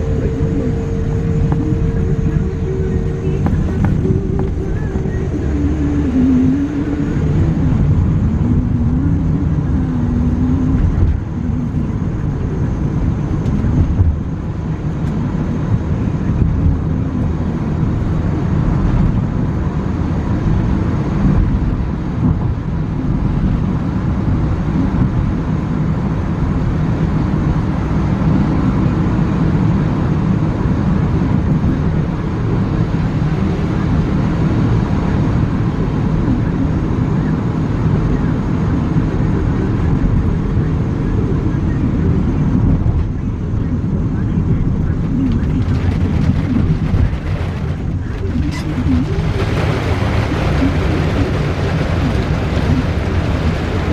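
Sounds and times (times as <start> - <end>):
car cabin road and engine rumble: 0.0 - 53.9.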